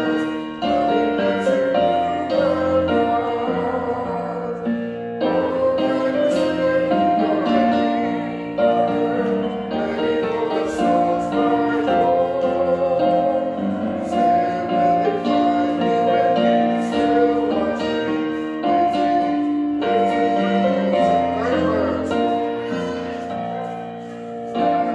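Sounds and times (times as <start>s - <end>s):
congregation singing a hymn: 0.0s - 24.9s
keyboard accompaniment: 0.0s - 24.9s.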